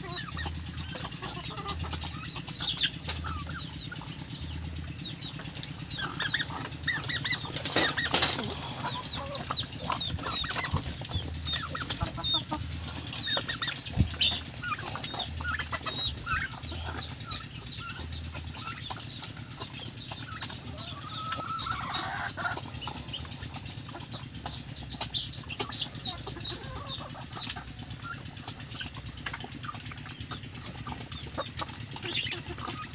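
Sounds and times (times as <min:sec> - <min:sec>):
birds peeping and clucking: 0:00.0 - 0:32.9
steady low hum: 0:00.0 - 0:32.9.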